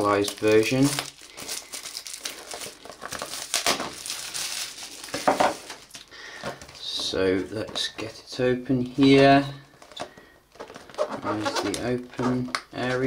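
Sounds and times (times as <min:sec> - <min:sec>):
plastic wrap crinkling: 0:00.0 - 0:07.5, 0:09.1 - 0:13.0.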